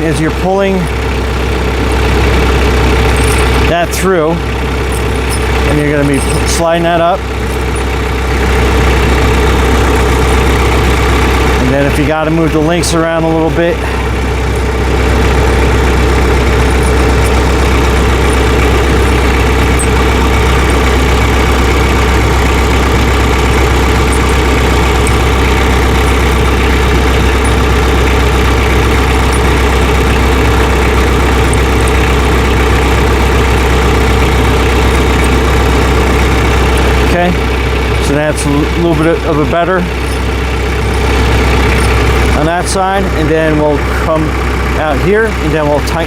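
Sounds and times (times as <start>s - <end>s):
tractor engine idling: 0.0s - 46.0s.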